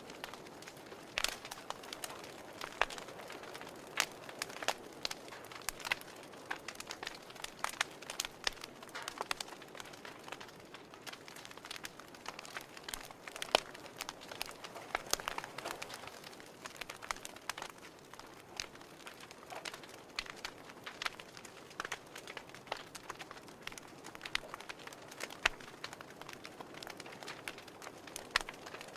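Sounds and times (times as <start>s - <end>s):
fire crackling and popping: 0.0s - 28.9s
soft steady hiss: 0.0s - 28.9s.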